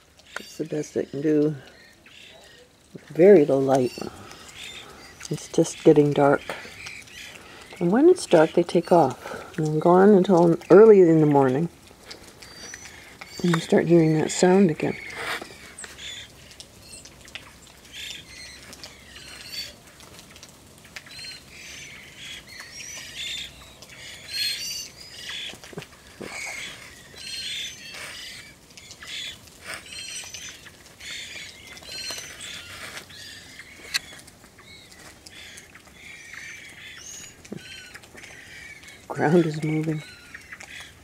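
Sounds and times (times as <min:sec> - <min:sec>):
thrushes calling and trilling: 0:00.0 - 0:41.0.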